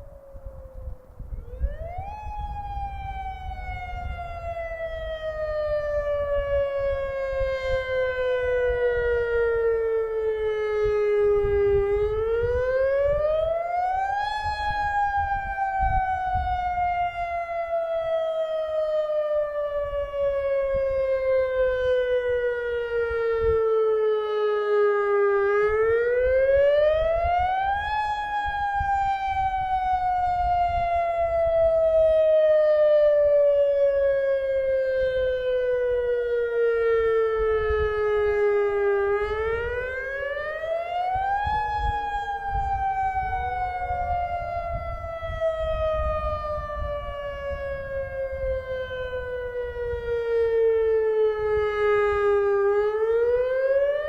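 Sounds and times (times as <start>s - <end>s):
faint second siren wailing: 0.0s - 54.0s
warning siren wailing: 0.0s - 54.0s.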